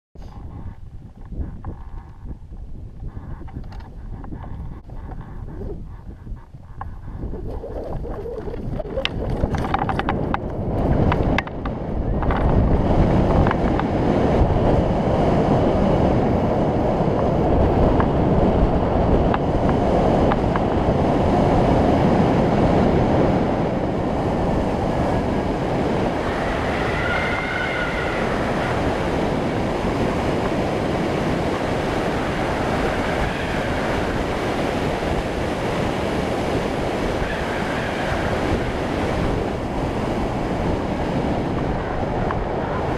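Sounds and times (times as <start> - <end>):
wind buffeting microphone: 0.2 - 42.9.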